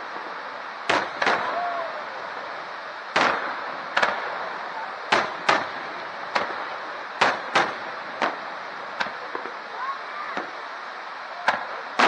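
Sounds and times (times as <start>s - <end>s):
firework shells bursting: 0.0s - 9.7s
steady background hiss: 0.0s - 12.0s.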